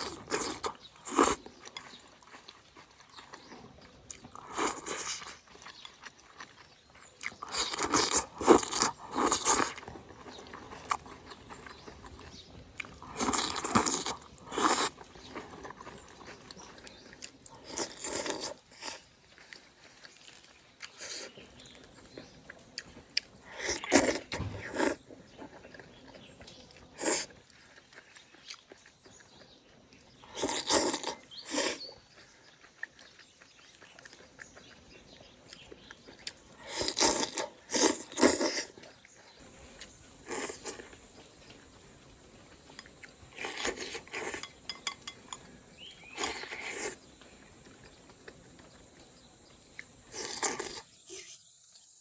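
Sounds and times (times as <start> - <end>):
wet chewing: 0.0 - 51.4.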